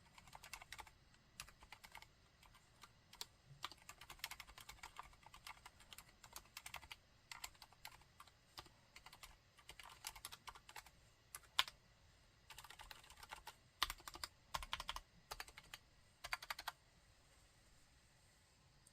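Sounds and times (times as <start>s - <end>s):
quiet keyboard keystrokes: 0.0s - 11.8s, 12.5s - 16.8s.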